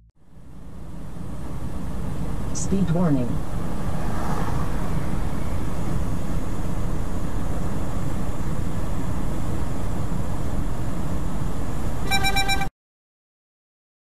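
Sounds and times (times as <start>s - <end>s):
truck road and engine noise: 0.1s - 12.7s.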